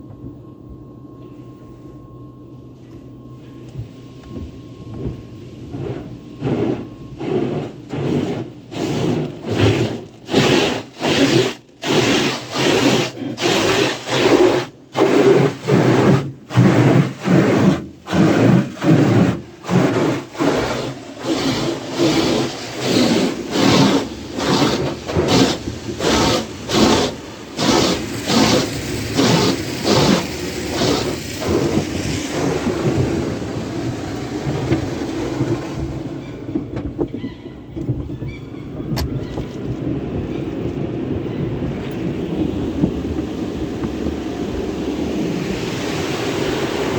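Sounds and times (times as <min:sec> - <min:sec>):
car wash brushes slapping on car: 0:04.4 - 0:37.2, 0:37.8 - 0:46.9.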